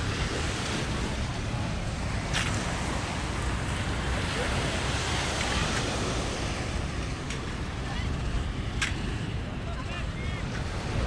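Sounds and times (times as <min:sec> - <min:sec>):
ocean surf rushing: 0:00.0 - 0:11.0
faint voices: 0:00.2 - 0:11.0.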